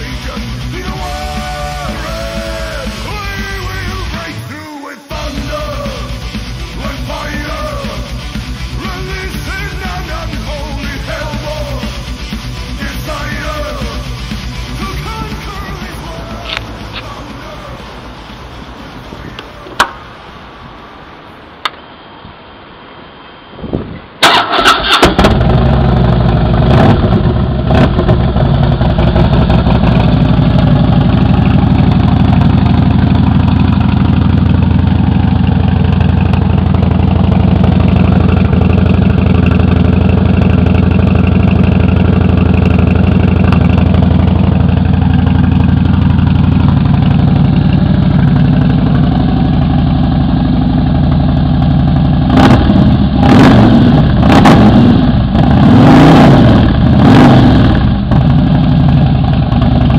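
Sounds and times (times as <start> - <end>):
motorcycle engine idling: 0.0 - 4.3, 5.2 - 19.4, 24.3 - 55.6, 56.4 - 59.9.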